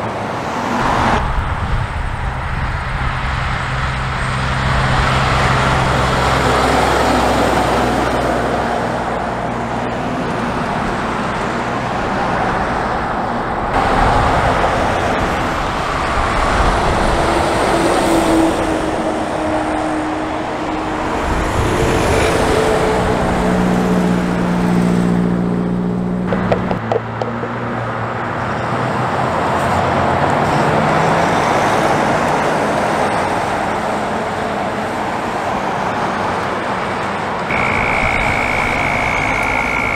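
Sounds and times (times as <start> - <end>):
diesel truck engines under load: 0.0 - 39.9
tyre and road noise: 0.0 - 39.9.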